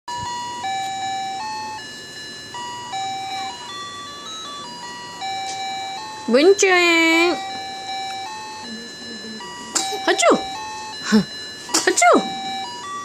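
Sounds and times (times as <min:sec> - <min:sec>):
electronic beeping melody: 0:00.1 - 0:13.0.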